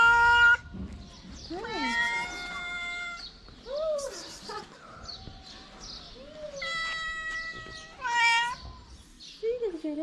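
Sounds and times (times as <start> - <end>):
cats meowing: 0.0 - 0.8, 1.5 - 8.9.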